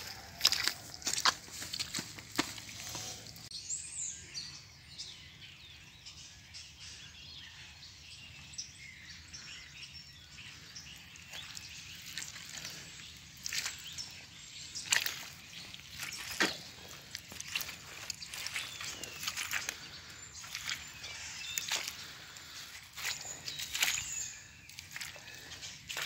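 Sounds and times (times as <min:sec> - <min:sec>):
songbirds chirping and singing: 0:00.0 - 0:26.0
woodland background: 0:00.0 - 0:26.0.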